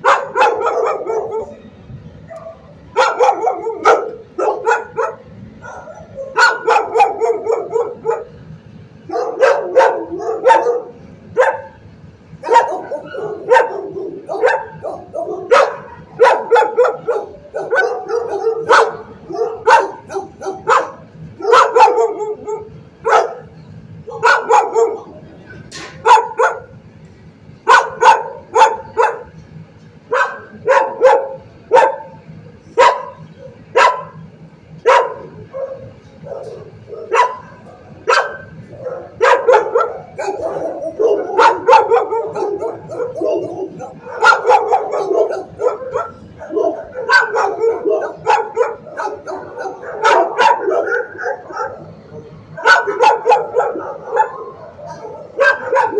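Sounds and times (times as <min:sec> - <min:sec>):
dogs barking: 0:00.0 - 0:01.6, 0:02.2 - 0:26.8, 0:27.6 - 0:55.9.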